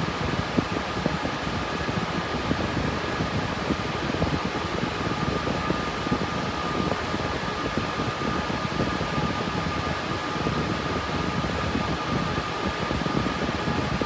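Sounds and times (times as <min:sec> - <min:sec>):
cooling fans rushing air: 0:00.0 - 0:14.0.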